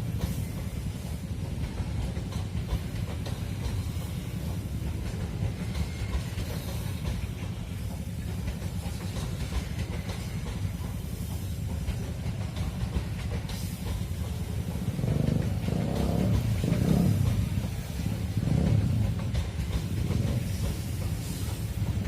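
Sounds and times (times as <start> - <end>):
freight train rumbling on rails: 0.0 - 22.0
train hiss: 0.0 - 22.0.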